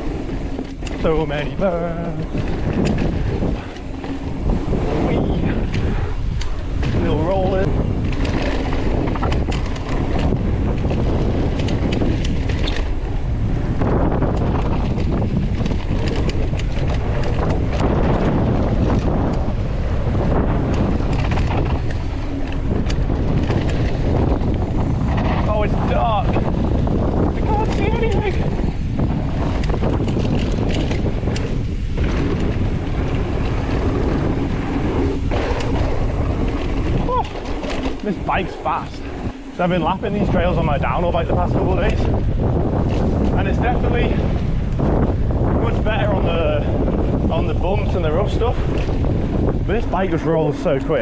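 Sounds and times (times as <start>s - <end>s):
bike rattling over bumps: 0.0s - 51.0s
bike tyre rolling noise: 0.0s - 51.0s
wind buffeting microphone: 0.0s - 51.0s.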